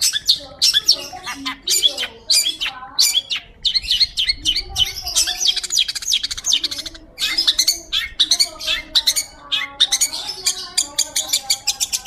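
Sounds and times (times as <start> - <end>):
shrike singing chirps and whistles: 0.0 - 12.0.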